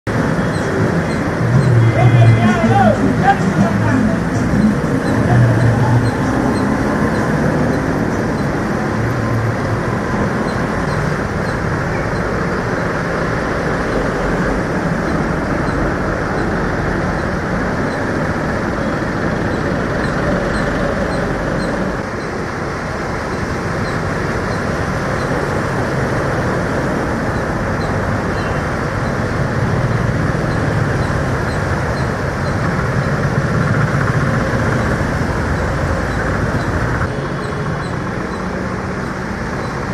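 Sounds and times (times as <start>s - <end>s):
vehicle engines: 0.0s - 39.9s.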